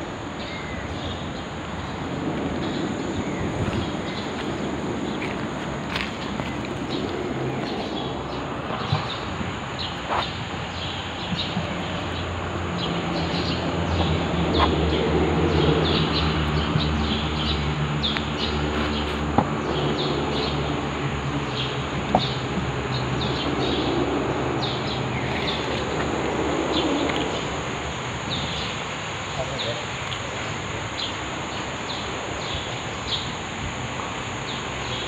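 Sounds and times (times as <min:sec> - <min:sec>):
small birds chirping: 0:00.4 - 0:33.5.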